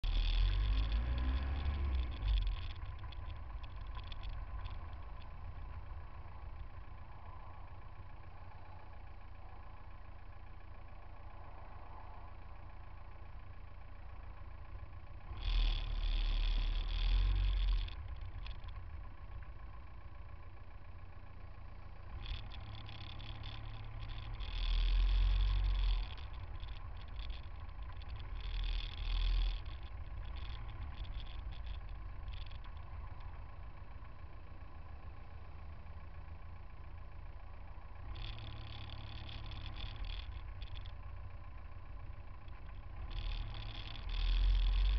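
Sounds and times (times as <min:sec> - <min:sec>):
car engines idling: 0:00.0 - 0:44.9
rush of engine and road noise: 0:00.0 - 0:44.9.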